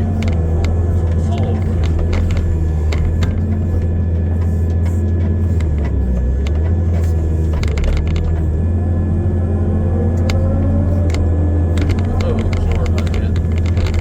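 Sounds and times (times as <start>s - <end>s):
sharp clicks and knocks: 0.0s - 8.7s, 10.1s - 14.0s
diesel engine humming: 0.0s - 14.0s.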